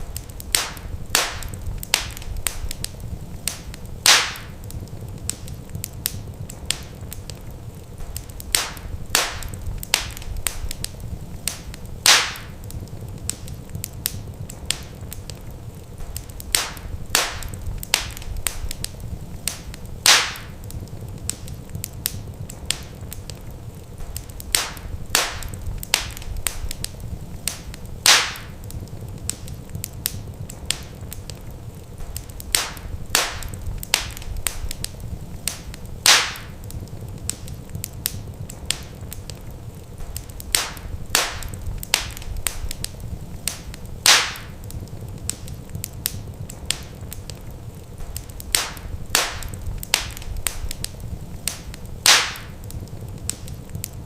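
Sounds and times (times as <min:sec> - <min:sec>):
low steady rumble: 0:00.0 - 0:54.0
wood fire crackling: 0:00.0 - 0:54.0.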